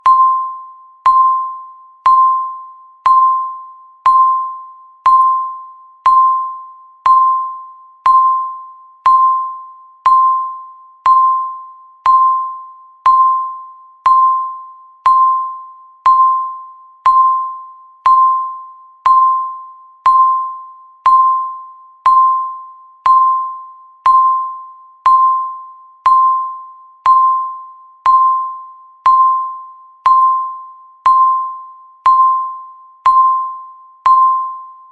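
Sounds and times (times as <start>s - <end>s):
countdown timer beeps: 0.0s - 34.9s.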